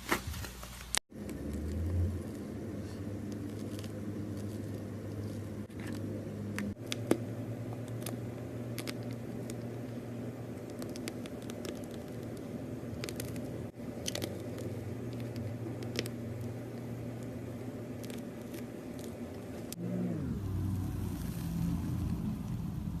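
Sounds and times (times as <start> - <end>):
foamy slime crackling and popping: 0.8 - 19.7, 20.6 - 23.0
steady low hum: 1.1 - 23.0.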